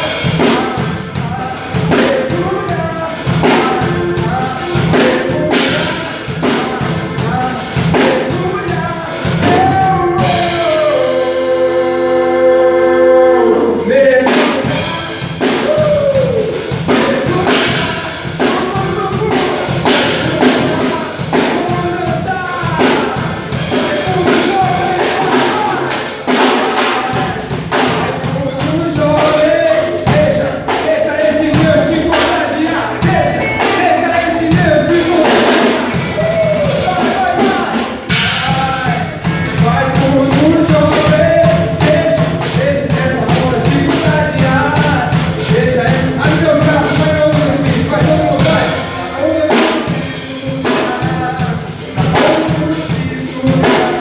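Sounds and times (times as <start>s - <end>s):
band playing a song: 0.0s - 54.0s
drum kit beat: 0.0s - 54.0s
person singing: 0.0s - 54.0s.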